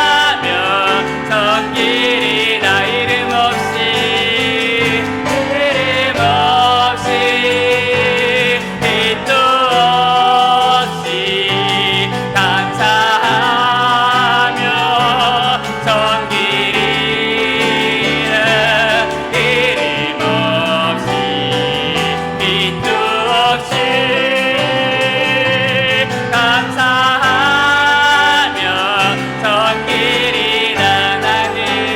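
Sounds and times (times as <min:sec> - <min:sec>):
person singing: 0:00.0 - 0:31.9
piano: 0:00.0 - 0:31.9.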